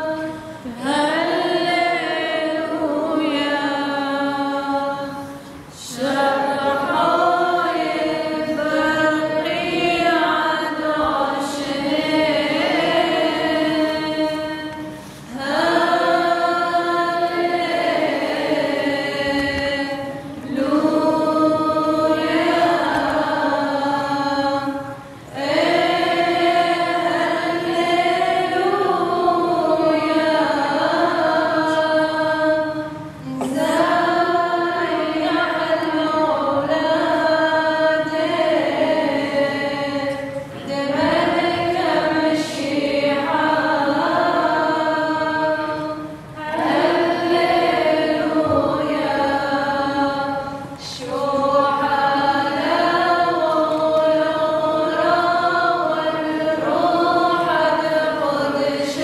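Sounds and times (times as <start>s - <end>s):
choir singing slow melody: 0.0s - 59.0s.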